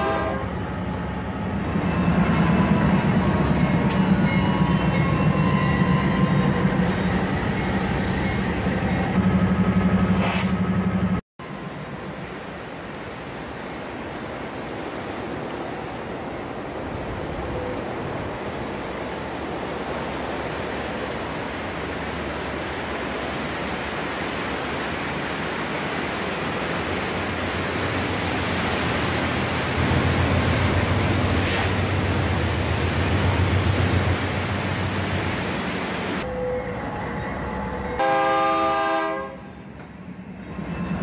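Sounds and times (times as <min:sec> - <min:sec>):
low train rumble: 0:00.0 - 0:41.0.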